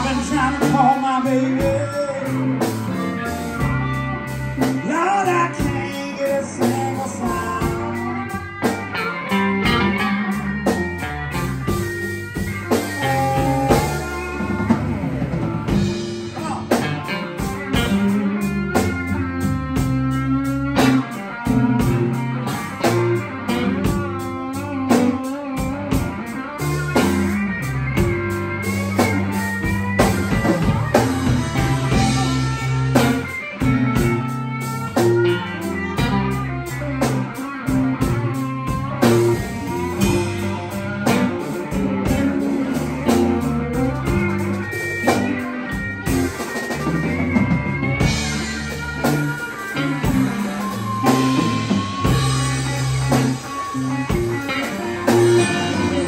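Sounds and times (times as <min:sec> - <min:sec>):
drum kit: 0:00.0 - 0:56.0
electric bass: 0:00.0 - 0:56.0
electric guitar lead: 0:00.0 - 0:56.0.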